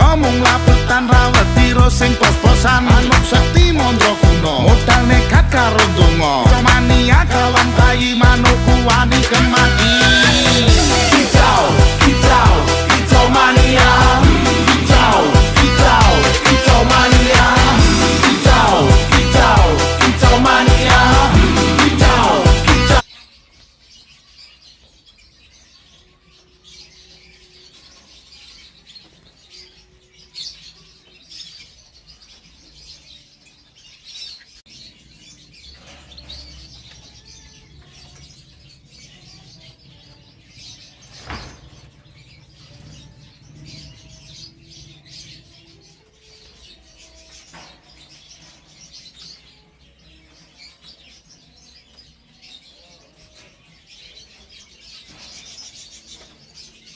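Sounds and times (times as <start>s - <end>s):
canary chirping and trilling: 0.0s - 56.9s.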